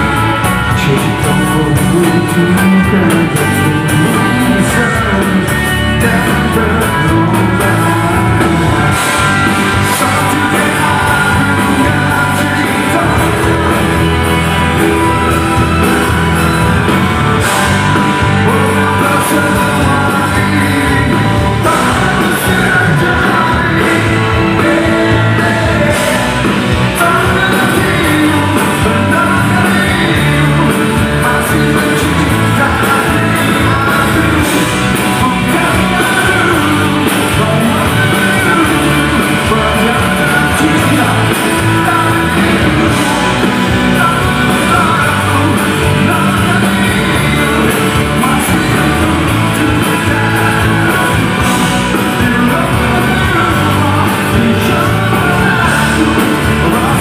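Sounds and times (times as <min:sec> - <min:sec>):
lead vocals singing: 0:00.0 - 0:57.0
rock band playing: 0:00.0 - 0:57.0.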